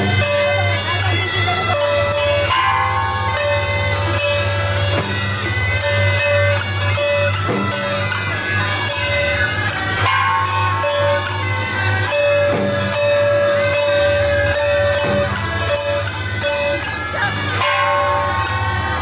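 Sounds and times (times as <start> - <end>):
music with steady beat: 0.0 - 19.0.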